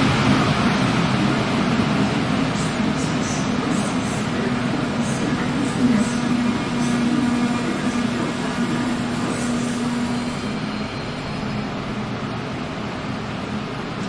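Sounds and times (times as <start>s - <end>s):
train humming and rumbling: 0.0s - 14.0s.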